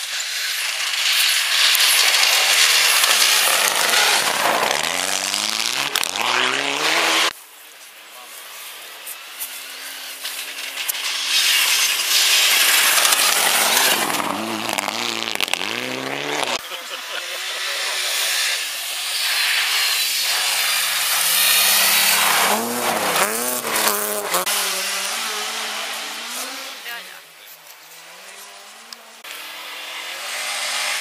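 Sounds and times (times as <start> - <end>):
tyres throwing snow and gravel: 0.0 - 27.9
rally car engine revving: 0.6 - 7.3, 9.3 - 27.1, 27.9 - 31.0.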